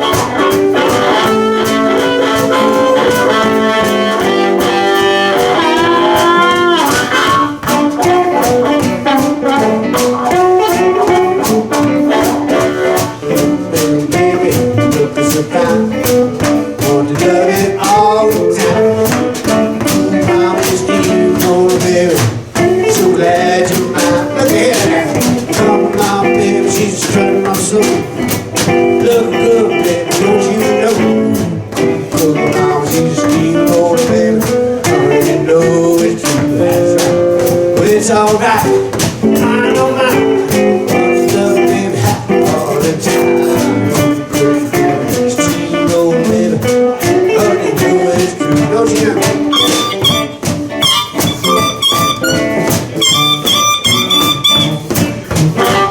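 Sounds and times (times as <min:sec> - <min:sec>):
blues guitars: 0:00.0 - 0:55.9
steady drum beat: 0:00.0 - 0:55.9.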